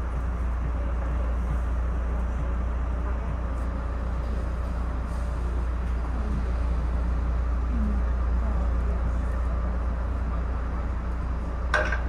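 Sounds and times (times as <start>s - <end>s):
train coach rumbling on track: 0.0s - 12.0s.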